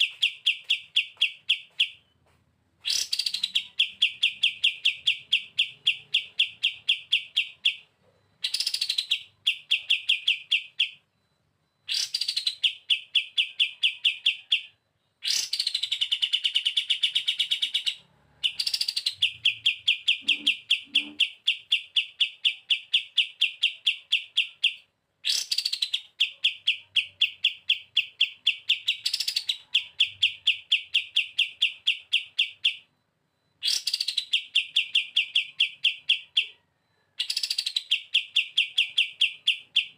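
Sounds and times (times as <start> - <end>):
bird singing rapid high notes: 2.8 - 11.1, 11.8 - 32.9, 33.6 - 36.6.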